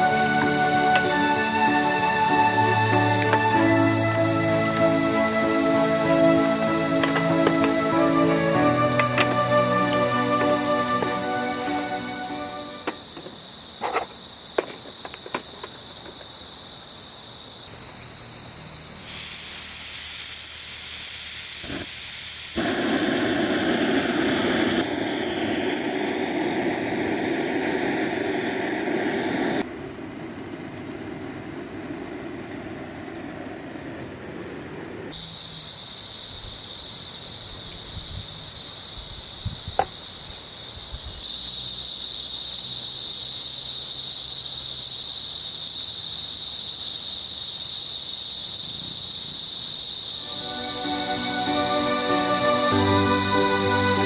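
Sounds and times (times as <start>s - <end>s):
crickets and insects chorus: 0.0s - 54.0s
steady hiss: 0.0s - 54.0s.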